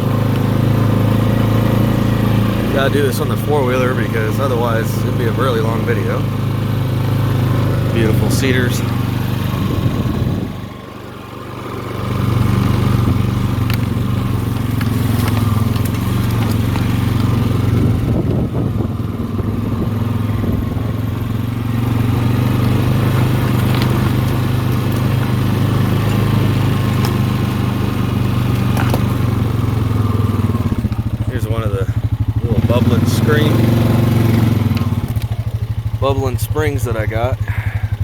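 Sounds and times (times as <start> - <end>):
atv engine droning: 0.0 - 38.0.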